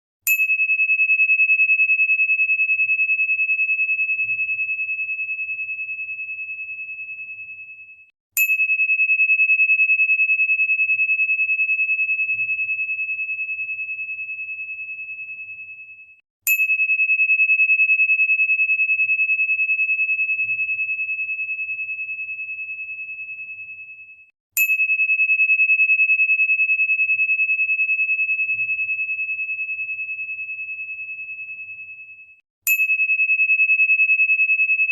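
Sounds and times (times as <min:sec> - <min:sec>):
high pure ringing tone: 0:00.3 - 0:34.9.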